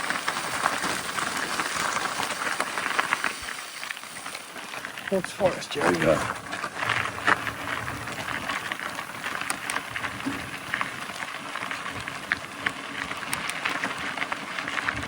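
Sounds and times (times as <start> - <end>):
bike tyres rolling over dirt: 0.0 - 15.0.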